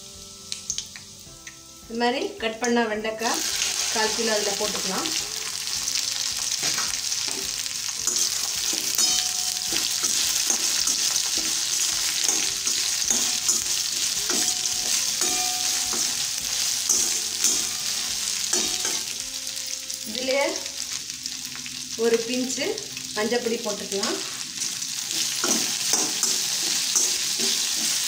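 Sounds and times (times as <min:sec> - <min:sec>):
okra sizzling in hot oil: 0:00.0 - 0:28.0.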